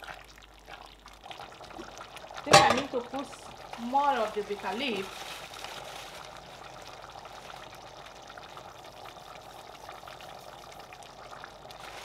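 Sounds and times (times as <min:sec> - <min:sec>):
soup bubbling with crackle: 0:00.0 - 0:12.0.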